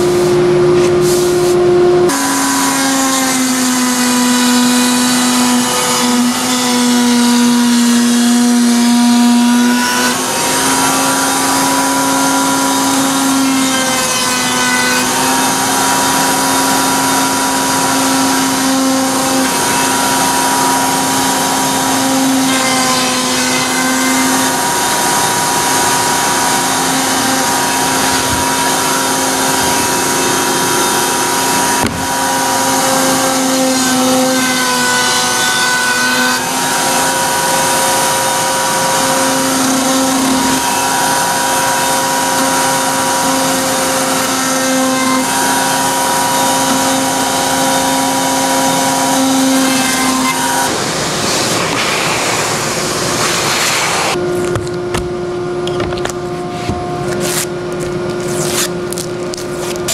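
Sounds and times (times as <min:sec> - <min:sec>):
router motor whine: 0:00.0 - 0:59.9.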